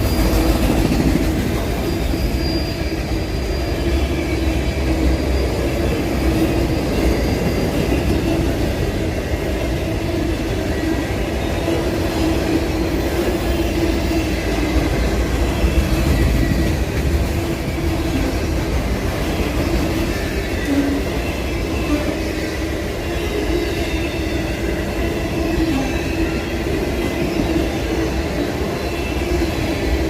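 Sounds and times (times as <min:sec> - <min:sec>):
freight train wheels rattling on track: 0:00.0 - 0:30.0.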